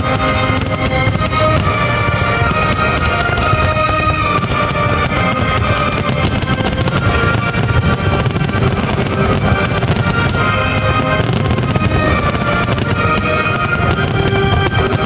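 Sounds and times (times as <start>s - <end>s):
fireworks booming and crackling: 0.0s - 15.0s
loud music with sustained tones: 0.0s - 15.0s.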